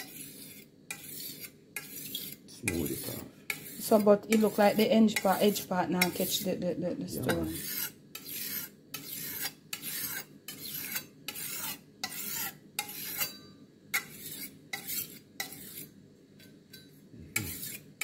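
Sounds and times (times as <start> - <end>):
knife scraping on whetstone: 0.0 - 6.6, 7.2 - 15.9, 17.4 - 18.0.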